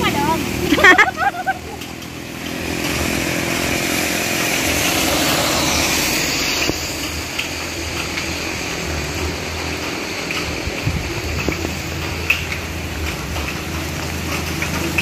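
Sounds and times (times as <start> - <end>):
light rain: 0.0 - 15.0
street noise rumble: 0.0 - 15.0
tyres hissing on wet road: 0.0 - 15.0.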